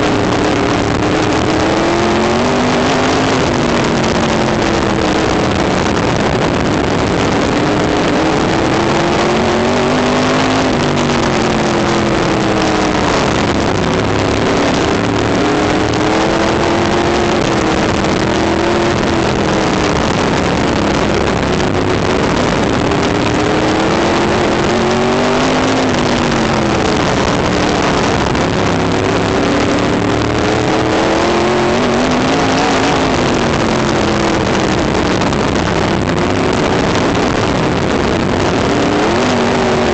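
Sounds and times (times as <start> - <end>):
race car engine revving: 0.0 - 39.9
wind noise on microphone: 0.0 - 39.9.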